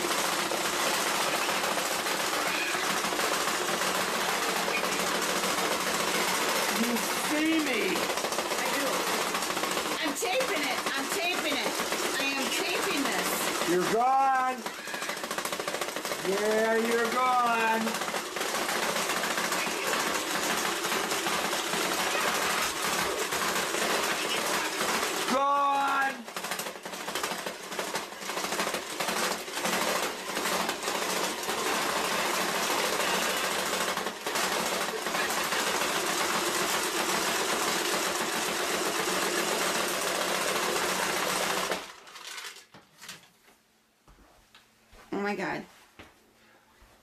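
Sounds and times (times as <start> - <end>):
toy rattling rapidly: 0.0 - 42.7.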